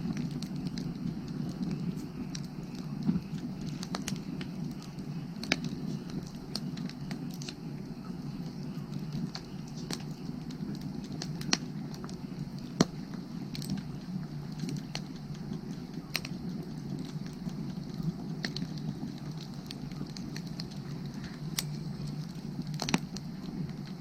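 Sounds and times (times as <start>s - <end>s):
firewood crackling and popping: 0.0s - 24.0s
steady low rumble: 0.0s - 24.0s.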